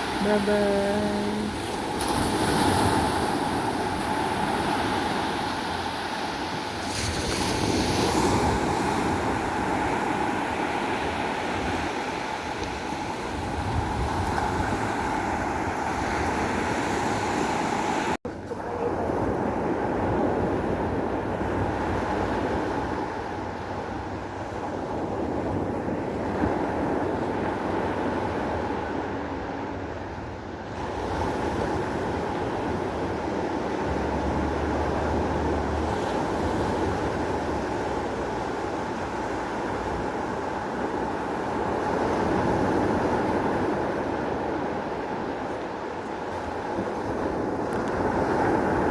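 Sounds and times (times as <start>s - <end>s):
surf washing on shore: 0.0s - 48.9s
wind rumbling on microphone: 1.4s - 48.9s.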